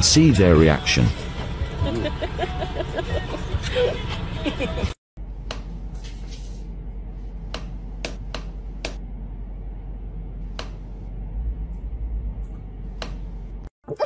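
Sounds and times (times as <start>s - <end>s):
steady low hum: 1.1s - 13.7s.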